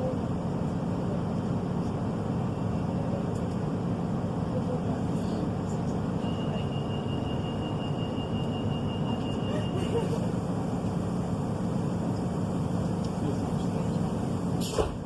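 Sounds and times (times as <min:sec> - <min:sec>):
railcar diesel engine rumble: 0:00.0 - 0:15.0.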